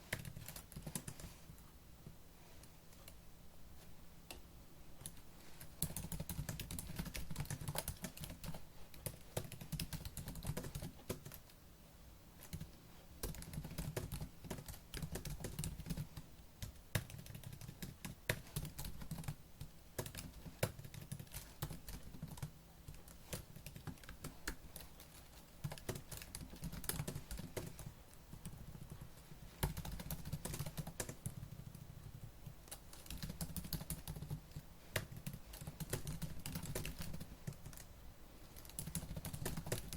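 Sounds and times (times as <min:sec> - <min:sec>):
fast typing on laptop keyboard: 0:00.0 - 0:01.4, 0:05.0 - 0:11.5, 0:12.4 - 0:37.9, 0:38.5 - 0:39.9.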